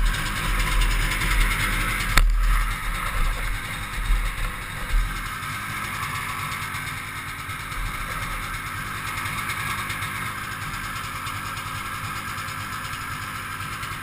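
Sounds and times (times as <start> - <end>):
snowmobile engine running: 0.0 - 14.0.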